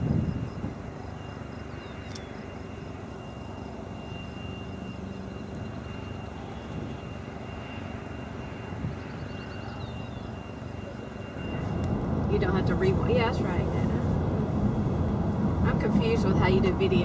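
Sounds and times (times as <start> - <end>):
distant jet engines rumbling: 0.0 - 17.0
faint high whine: 0.0 - 17.0.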